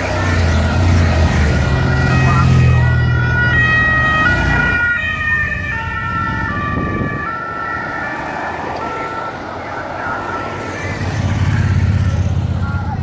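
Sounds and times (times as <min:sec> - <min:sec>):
sirens stepping between pitches: 0:00.0 - 0:12.0.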